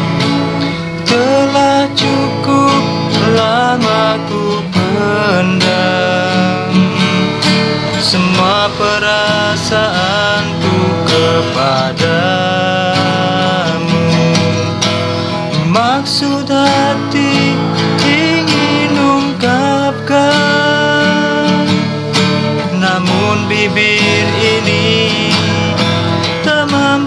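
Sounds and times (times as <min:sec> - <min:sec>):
guitar instrumental music: 0:00.0 - 0:27.0.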